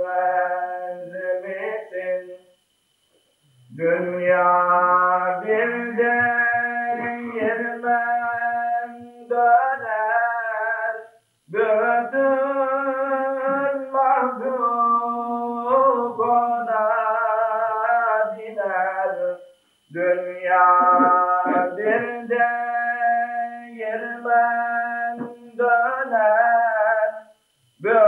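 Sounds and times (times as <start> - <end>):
man singing a hymn: 0.0 - 2.3, 3.7 - 27.2, 27.8 - 28.0.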